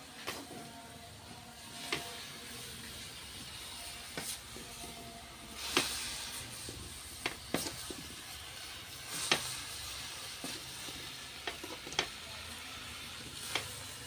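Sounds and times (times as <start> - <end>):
vegetables sizzling in a pan: 1.2 - 14.0.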